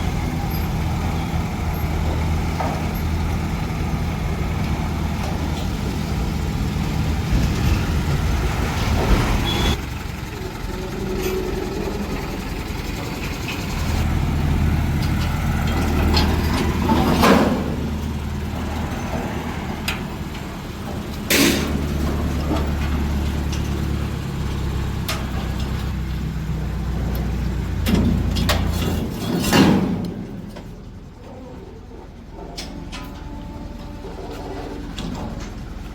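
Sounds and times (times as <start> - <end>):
heavy vehicle engine humming: 0.0 - 35.9.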